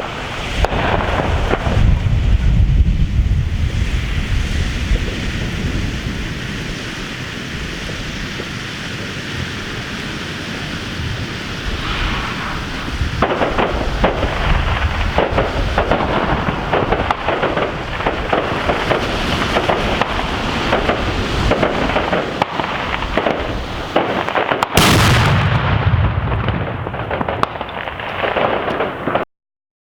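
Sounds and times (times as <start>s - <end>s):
loud firework blast: 0.0s - 5.7s, 10.8s - 29.2s
firework bangs and crackles: 0.0s - 29.3s.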